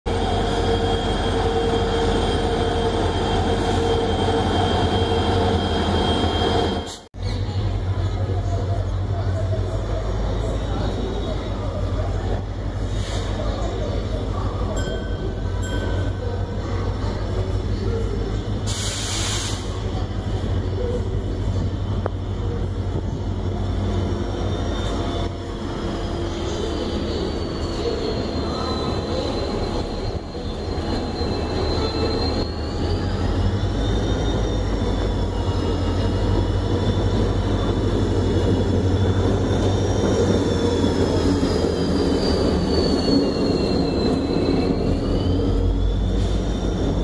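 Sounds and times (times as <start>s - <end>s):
diesel locomotive engine drone: 0.0s - 47.0s.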